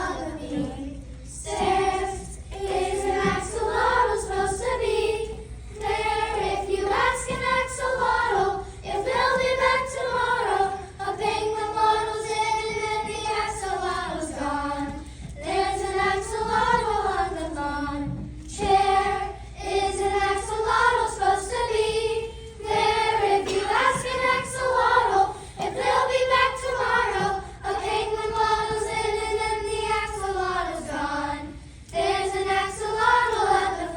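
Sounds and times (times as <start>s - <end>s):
children singing in unison: 0.0s - 33.9s.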